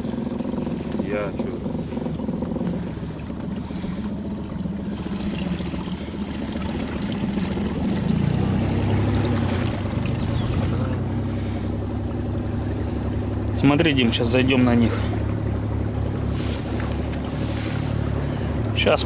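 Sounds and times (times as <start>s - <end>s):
outboard motor running: 0.0s - 19.0s
water rushing past hull: 0.0s - 19.0s.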